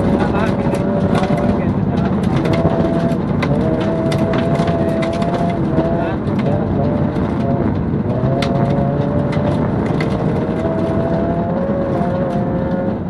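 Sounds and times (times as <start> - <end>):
car engine running under load: 0.0 - 13.0
gravel and ice ticking on car: 0.0 - 13.0.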